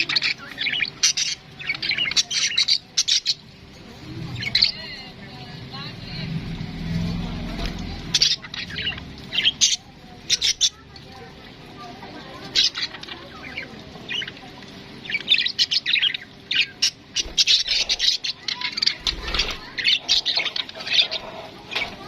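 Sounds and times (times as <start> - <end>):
parrots squawking and chirping: 0.0 - 5.8, 6.8 - 22.0.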